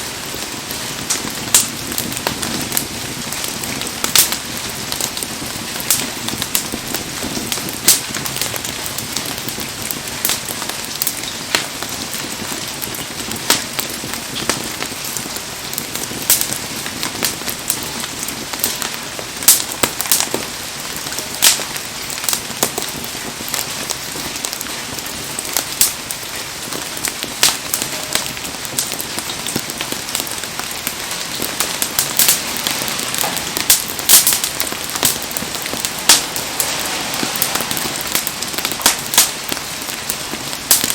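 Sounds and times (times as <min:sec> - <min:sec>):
heavy rain falling: 0:00.0 - 0:40.9
wood fire crackling and popping: 0:00.0 - 0:40.9.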